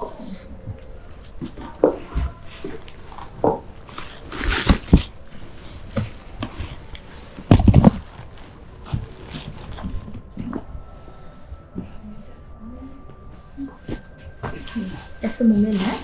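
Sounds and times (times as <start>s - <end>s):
rustling: 0.1s - 16.0s.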